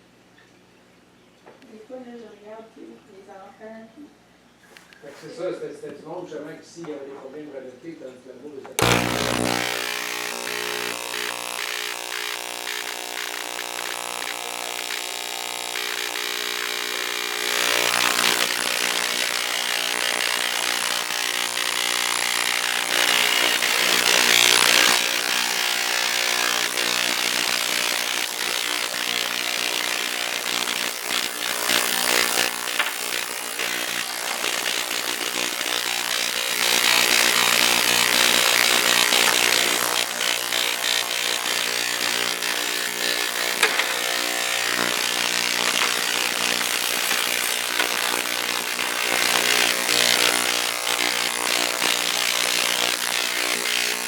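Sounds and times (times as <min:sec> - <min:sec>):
rasping buzz: 0:08.8 - 0:54.0
ultrasonic cleaner humming: 0:08.8 - 0:54.0.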